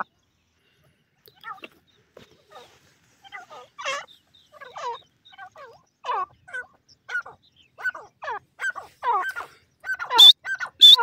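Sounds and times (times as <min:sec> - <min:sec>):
francolin calling: 0:00.0 - 0:11.0.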